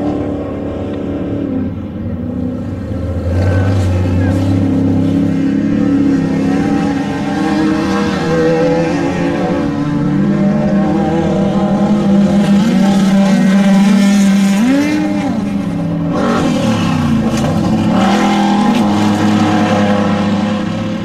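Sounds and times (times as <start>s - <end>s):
off-road vehicle engines running: 0.0s - 21.0s.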